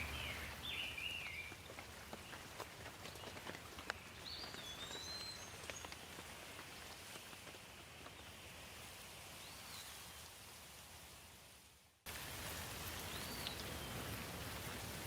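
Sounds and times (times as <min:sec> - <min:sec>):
rain pattering on leaves: 0:00.0 - 0:15.0.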